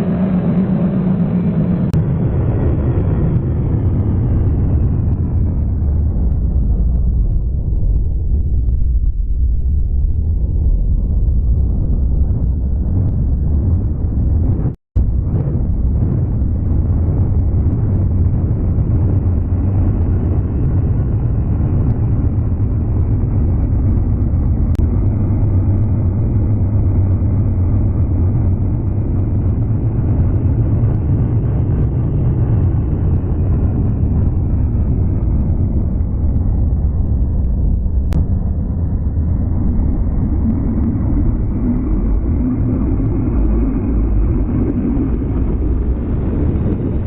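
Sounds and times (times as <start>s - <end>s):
muffled low rumble: 0.0s - 47.0s.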